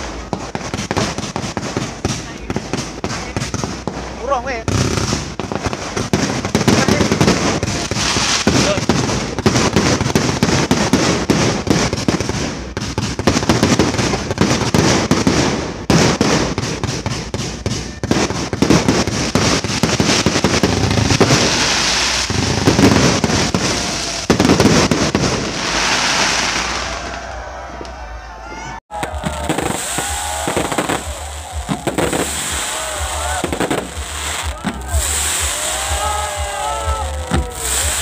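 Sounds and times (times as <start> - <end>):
fireworks bangs and crackling: 0.0 - 28.0, 28.9 - 38.0.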